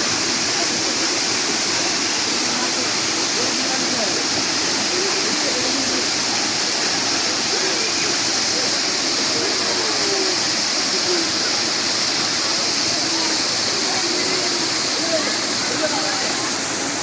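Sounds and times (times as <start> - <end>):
faint voices of people: 0.0 - 17.0
waterfall pouring: 0.0 - 17.0.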